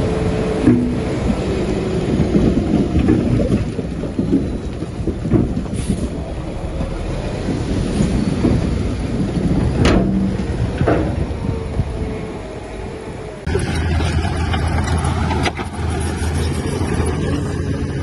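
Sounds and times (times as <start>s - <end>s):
bulldozer diesel engine rumbling: 0.0s - 18.0s.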